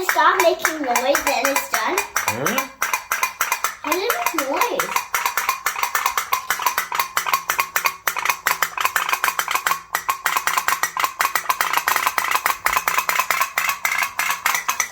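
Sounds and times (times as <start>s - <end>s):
toy boat boiler tapping: 0.0s - 14.9s.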